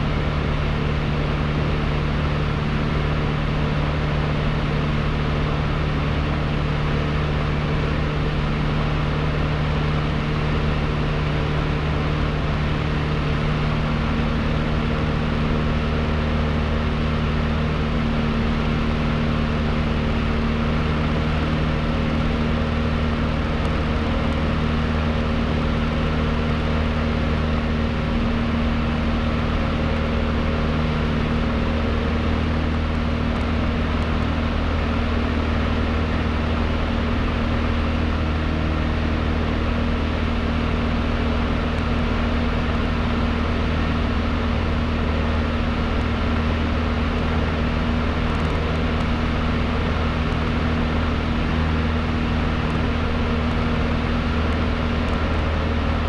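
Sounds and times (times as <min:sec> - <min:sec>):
airplane engine and propeller: 0:00.0 - 0:56.0.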